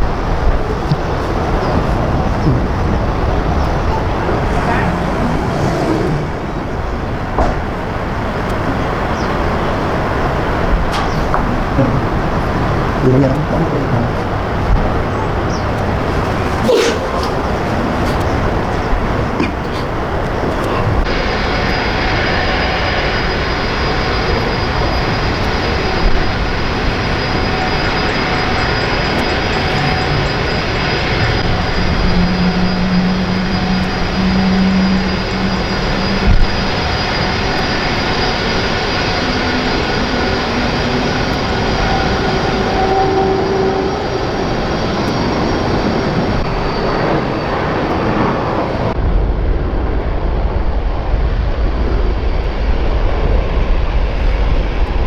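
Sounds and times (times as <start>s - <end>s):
high-pitched engine whine: 0.0s - 55.0s
jet engines roaring: 0.0s - 55.0s.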